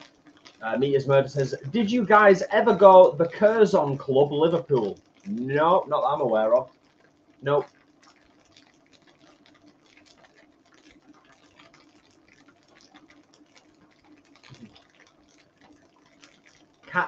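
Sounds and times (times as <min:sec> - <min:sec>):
low steady hum: 0:00.0 - 0:17.0
tofu crackling in frying oil: 0:00.0 - 0:17.0.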